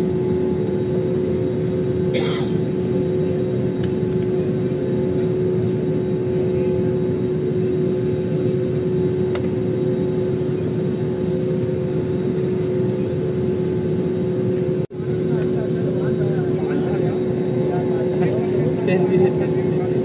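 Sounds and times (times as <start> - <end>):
constant humming tone: 0.0 - 20.0
jet engine cabin drone: 0.0 - 20.0.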